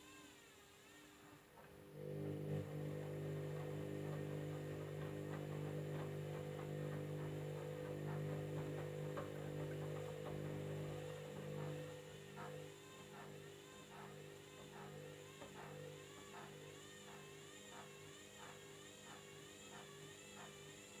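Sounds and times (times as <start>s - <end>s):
washing machine hum: 1.3s - 21.0s.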